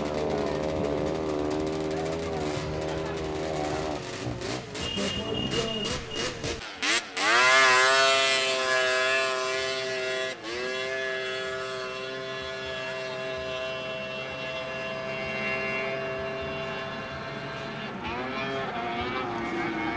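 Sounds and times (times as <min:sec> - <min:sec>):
snowmobile engine at high revs: 0:00.0 - 0:19.9.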